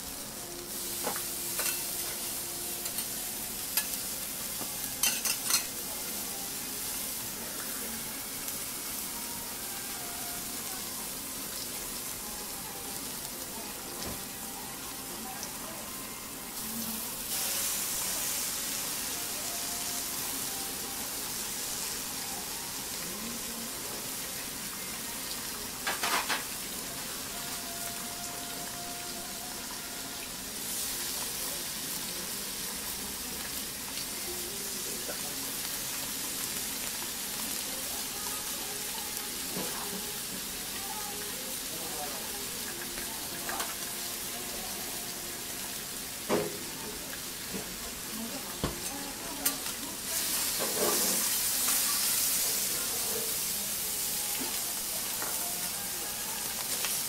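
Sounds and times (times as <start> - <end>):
food sizzling on a griddle: 0.0 - 57.0.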